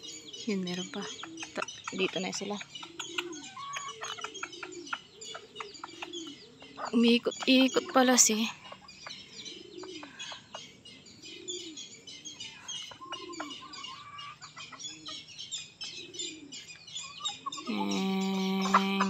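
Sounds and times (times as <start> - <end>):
rising and falling bird calls: 0.0 - 19.0
small birds chirping: 0.0 - 19.0.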